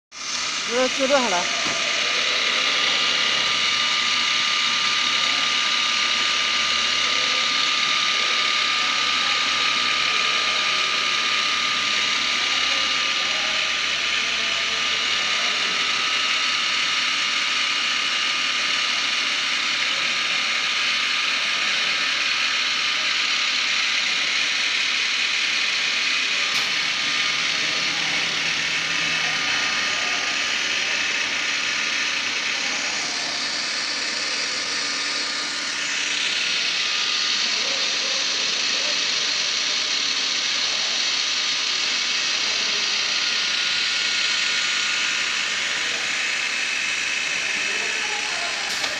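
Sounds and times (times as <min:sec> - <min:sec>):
cnc router whining: 0:00.1 - 0:48.9.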